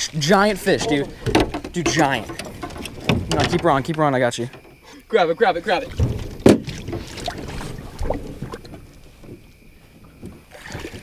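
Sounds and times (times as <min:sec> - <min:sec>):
fish knocking against boat: 0:00.0 - 0:05.0, 0:05.8 - 0:10.8.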